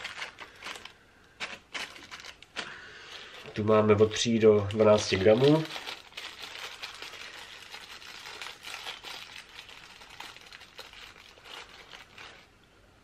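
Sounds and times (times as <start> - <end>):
paper tape and hooks rustling: 0.0 - 12.5.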